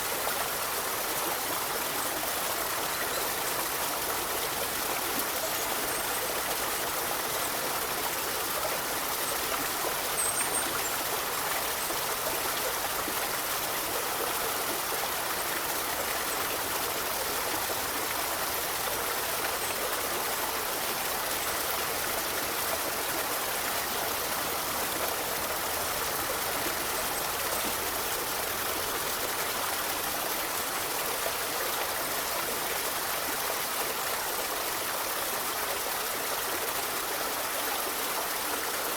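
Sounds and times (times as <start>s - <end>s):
river rushing water: 0.0s - 38.9s.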